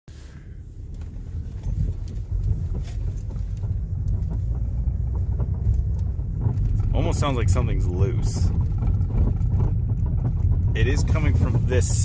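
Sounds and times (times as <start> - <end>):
road noise rumble: 0.1 - 12.0
car suspension rattling and clicking: 0.4 - 12.0.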